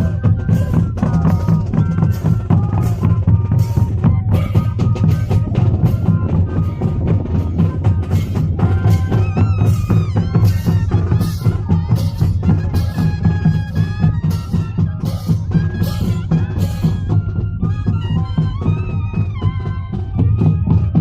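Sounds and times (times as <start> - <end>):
duct flutes playing melody: 0.0 - 21.0
steady drumbeat: 0.0 - 21.0.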